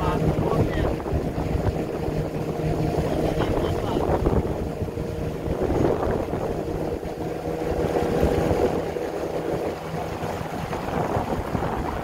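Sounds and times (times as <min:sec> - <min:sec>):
small boat motor droning: 0:00.0 - 0:12.0
wind buffeting microphone: 0:00.0 - 0:12.0.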